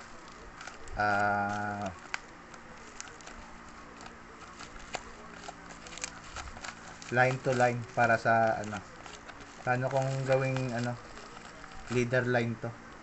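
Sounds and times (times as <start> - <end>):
plastic pouch crinkling: 0.0 - 12.7.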